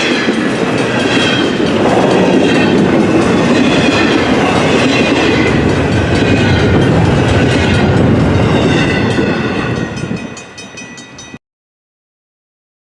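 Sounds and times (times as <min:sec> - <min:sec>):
freight train wheels rumbling on rail: 0:00.0 - 0:11.4
wheels clacking over rail joints: 0:00.0 - 0:11.4.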